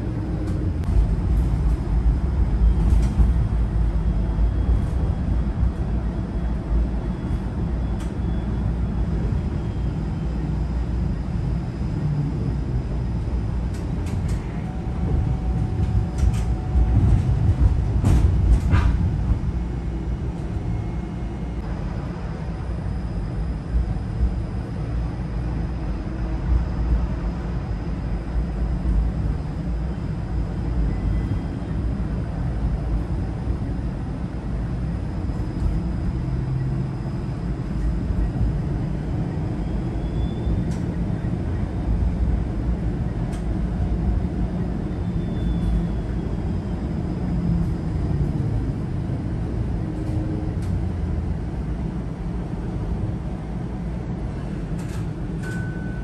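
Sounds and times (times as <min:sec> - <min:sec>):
streetcar rumbling on tracks: 0:00.0 - 0:56.0.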